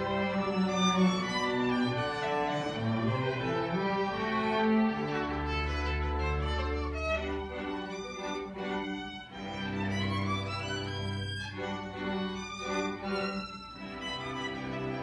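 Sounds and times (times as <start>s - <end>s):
string orchestra playing: 0.0s - 15.0s.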